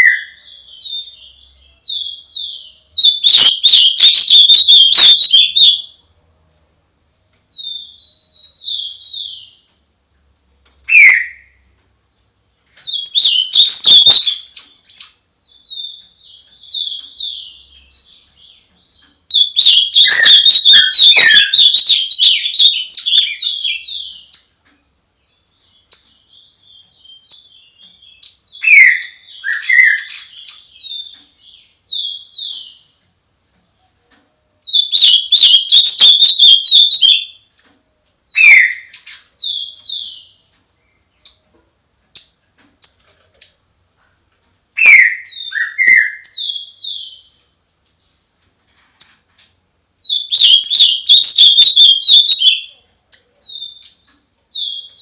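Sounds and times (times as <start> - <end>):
songbird singing: 0.0 - 6.6, 7.3 - 55.0.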